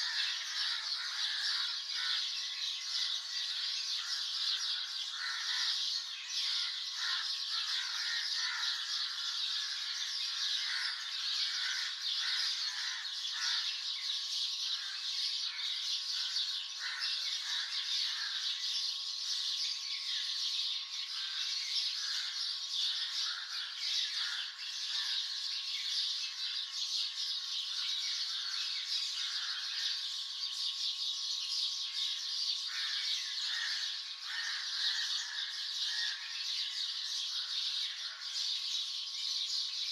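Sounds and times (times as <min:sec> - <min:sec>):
chorus of birds chirping: 0:00.0 - 0:39.9.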